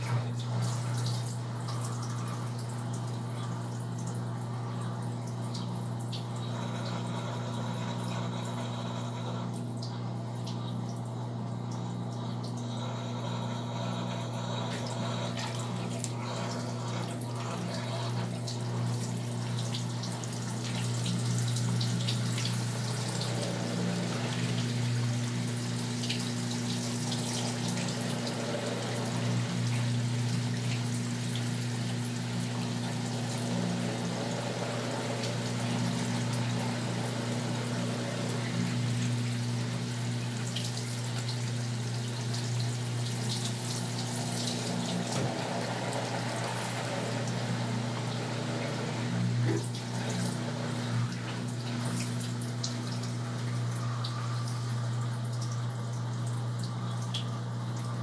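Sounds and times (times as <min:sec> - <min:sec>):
low electrical hum: 0:00.0 - 0:58.0
water splashing in washing machine: 0:00.0 - 0:58.0.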